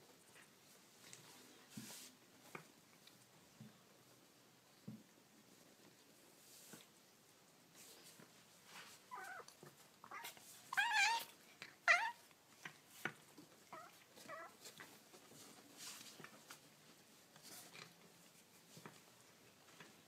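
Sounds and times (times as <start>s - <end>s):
faint rustling: 0.0s - 4.3s, 5.0s - 20.0s.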